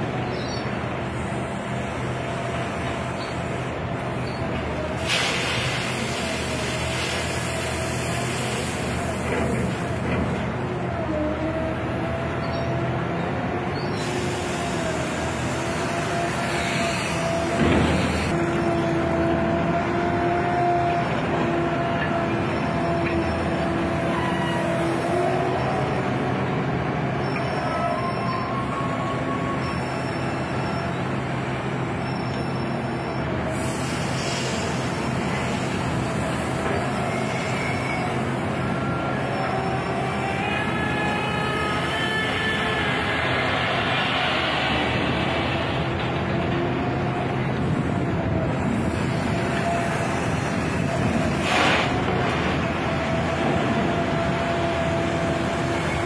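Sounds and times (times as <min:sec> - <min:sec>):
excavator hydraulic whine: 0:00.3 - 0:56.0.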